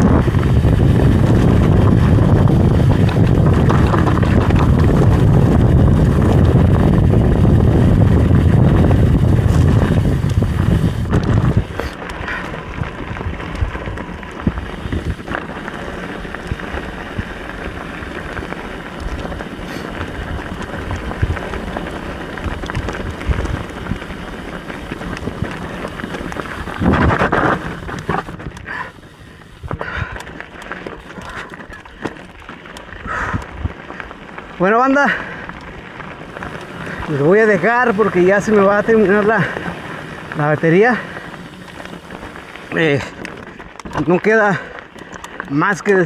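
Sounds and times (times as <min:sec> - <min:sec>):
bike knocks and rattles: 0:00.0 - 0:34.2, 0:41.0 - 0:45.6
wind buffeting microphone: 0:00.0 - 0:45.8
bike tyres rolling over rocks: 0:00.0 - 0:46.0.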